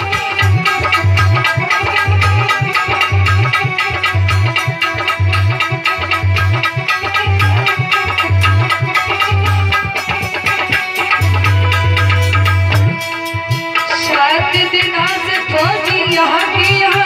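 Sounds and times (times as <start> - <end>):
tabla and hand percussion: 0.0 - 17.0.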